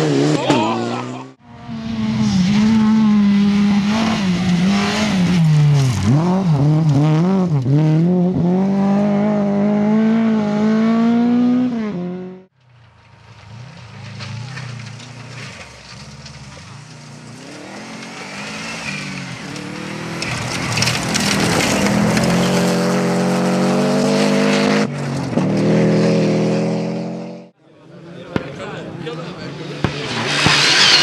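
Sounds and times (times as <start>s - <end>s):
rally car engine revving: 0.0s - 12.5s, 13.4s - 31.0s
faint second rally car engine: 0.0s - 31.0s.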